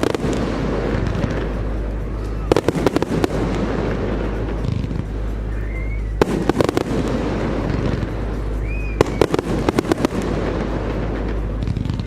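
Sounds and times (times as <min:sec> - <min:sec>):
firework whistle: 0:00.0 - 0:12.0
fireworks bangs and crackles: 0:00.0 - 0:12.0.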